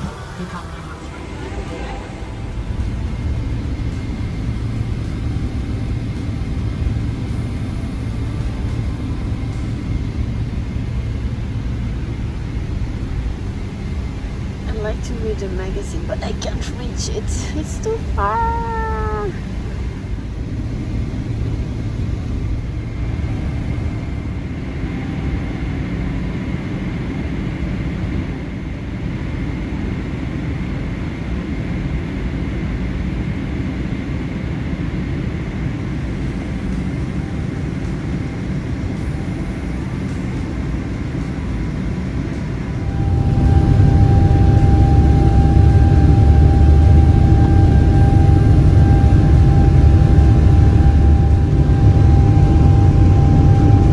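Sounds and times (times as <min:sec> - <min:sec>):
jet engine whine: 0:00.0 - 0:53.9
jet engines rumbling: 0:00.0 - 0:53.9.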